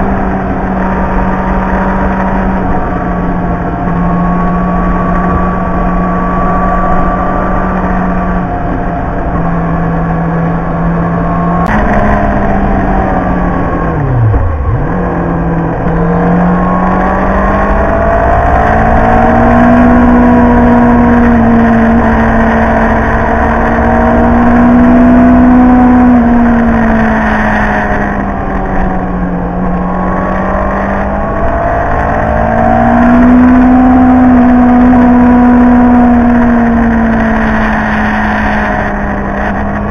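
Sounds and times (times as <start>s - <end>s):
motorcycle engine at speed: 0.0s - 39.9s
wind rush: 0.0s - 39.9s.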